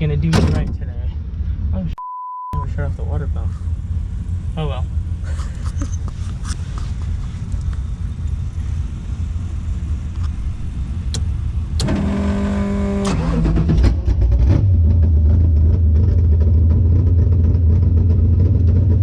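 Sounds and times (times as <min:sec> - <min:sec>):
car engines rumbling: 0:00.0 - 0:02.0, 0:02.6 - 0:19.0.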